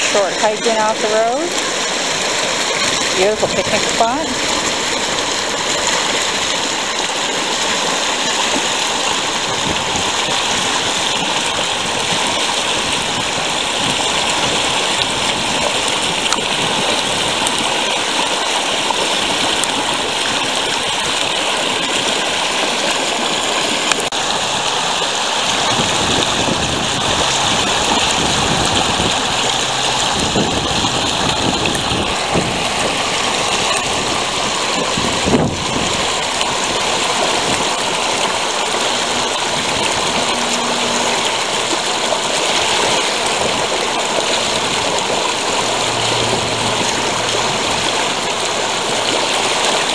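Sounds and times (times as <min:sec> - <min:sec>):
river water splashing over rocks: 0:00.0 - 0:49.9.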